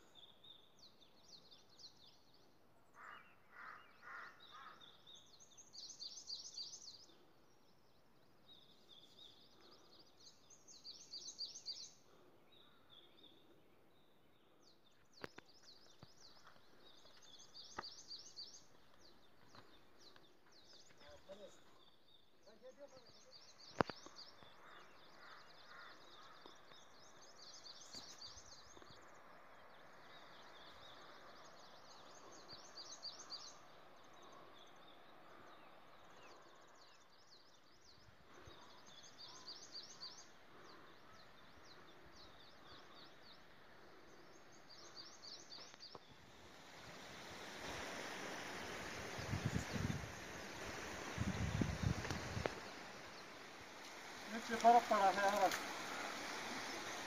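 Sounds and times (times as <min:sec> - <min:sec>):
faint outdoor ambience: 0:00.0 - 0:57.0.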